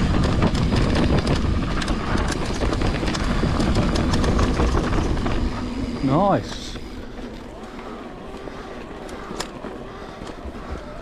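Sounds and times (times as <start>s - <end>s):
bike rattling over rough ground: 0.0s - 11.0s
wind rumbling on microphone: 0.0s - 11.0s.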